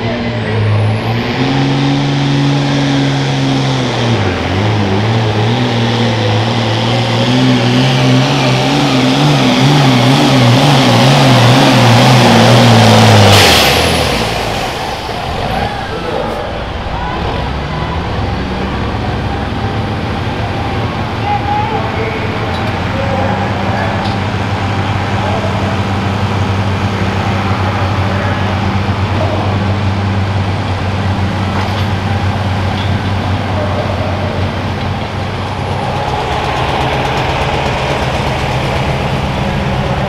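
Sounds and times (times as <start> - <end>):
diesel tractor engine at full throttle: 0.0 - 40.0.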